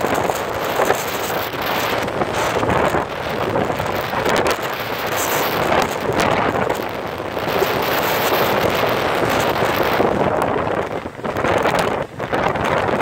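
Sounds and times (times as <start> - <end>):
outboard motor running: 0.0 - 13.0
rushing water: 0.0 - 13.0
wind buffeting microphone: 0.0 - 13.0.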